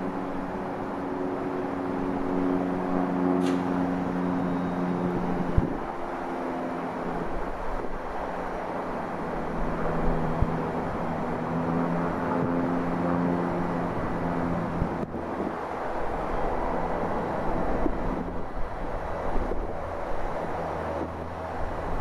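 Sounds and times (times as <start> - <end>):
diesel locomotive engine hum: 0.0 - 22.0.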